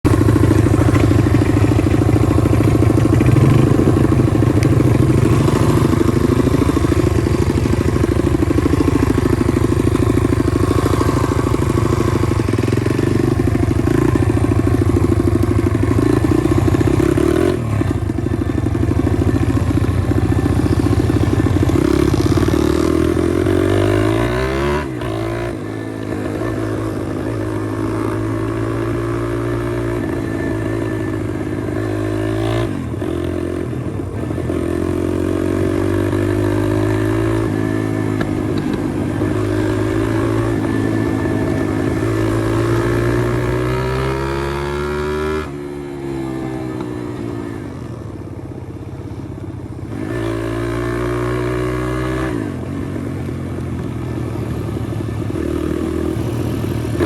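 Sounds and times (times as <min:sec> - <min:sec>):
pit bike engine revving: 0:00.1 - 0:33.7, 0:34.5 - 0:47.7.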